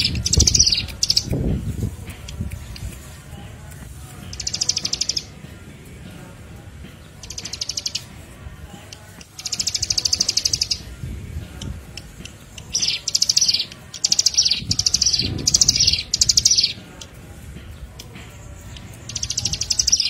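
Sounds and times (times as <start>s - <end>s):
songbird trilled chirps: 0.0s - 5.5s, 6.9s - 20.0s.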